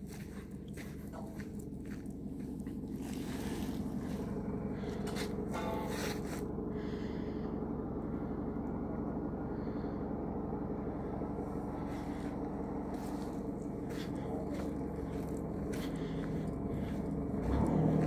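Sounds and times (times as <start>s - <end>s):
low hum and rumble: 0.0s - 18.0s.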